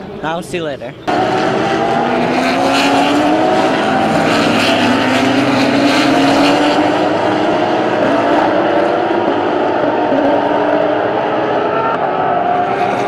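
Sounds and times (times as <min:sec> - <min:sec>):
race car engines roaring past: 0:00.0 - 0:13.0.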